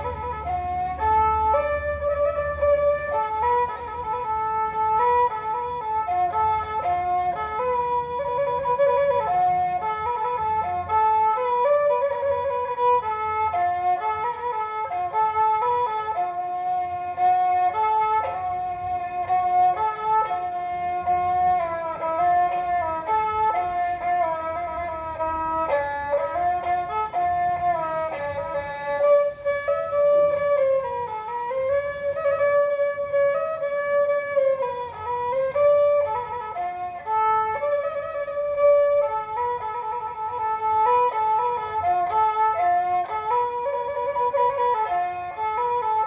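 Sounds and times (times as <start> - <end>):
bowed fiddle slow melody: 0.0 - 46.0.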